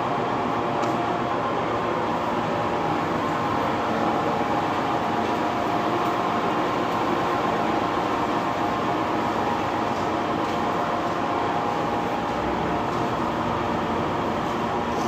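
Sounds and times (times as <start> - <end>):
oil press machine droning: 0.1 - 15.0.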